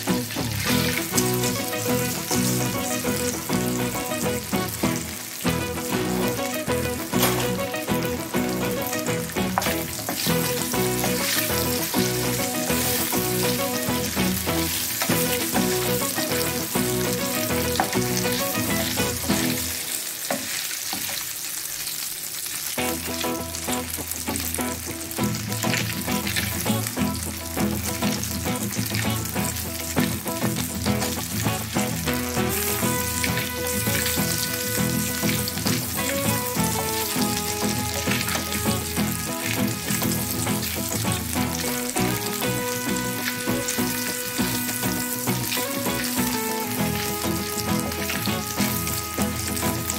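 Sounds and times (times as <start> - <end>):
background music: 0.0 - 20.7, 22.8 - 49.9
sausages sizzling in frying pan: 0.0 - 49.9.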